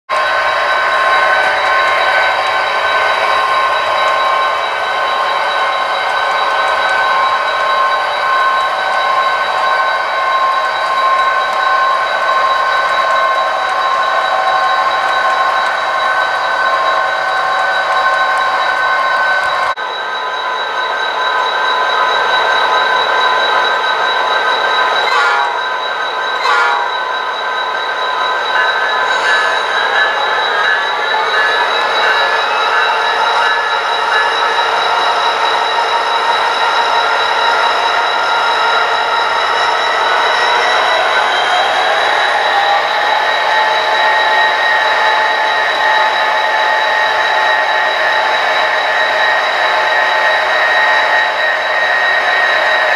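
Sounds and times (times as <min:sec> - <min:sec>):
model train running: 0:00.1 - 0:52.9.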